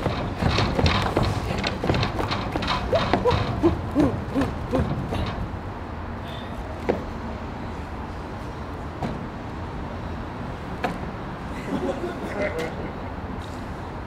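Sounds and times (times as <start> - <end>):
low outdoor rumble: 0.0 - 11.6.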